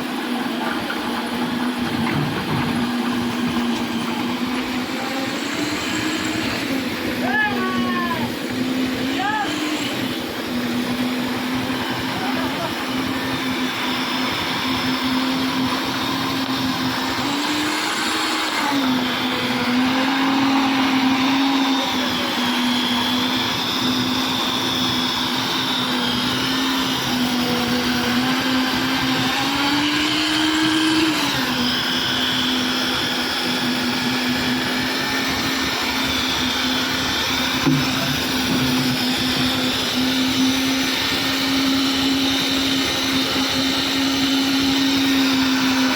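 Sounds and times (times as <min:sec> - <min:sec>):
concrete mixer churning: 0:00.0 - 0:45.9
concrete mixer engine hum: 0:00.0 - 0:45.9.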